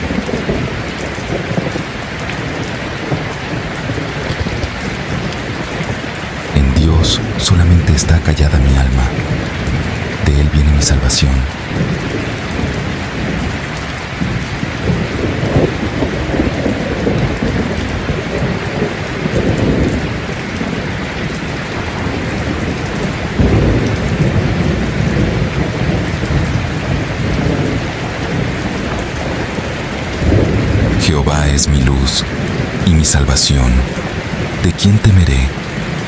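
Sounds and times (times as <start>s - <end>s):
low rumbling thunder: 0.0s - 7.5s, 9.0s - 10.2s, 11.5s - 31.1s, 32.2s - 32.8s
rain falling: 0.0s - 36.0s.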